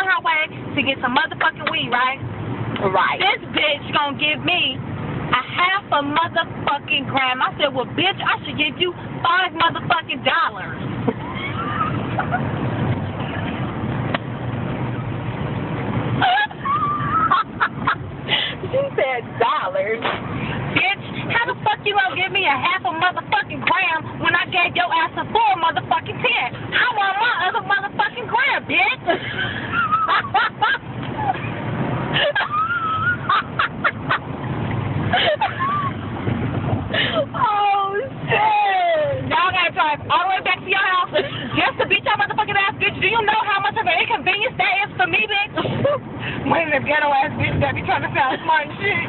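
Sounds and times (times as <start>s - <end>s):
car engine running: 0.0s - 49.0s
steady low rumble: 0.0s - 49.0s.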